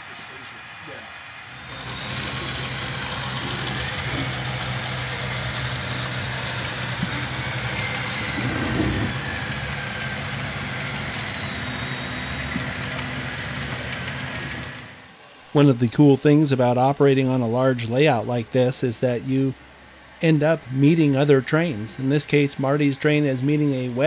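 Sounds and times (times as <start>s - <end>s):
faint high whine: 0.0s - 24.0s
model locomotive diesel rumble: 0.0s - 24.0s.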